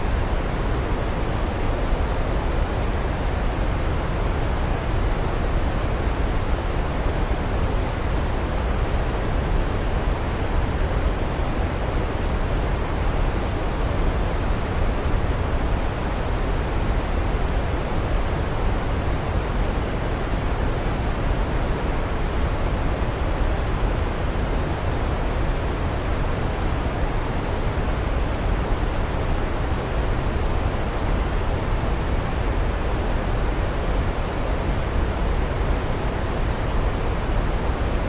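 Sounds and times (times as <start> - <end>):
white noise: 0.0 - 38.0.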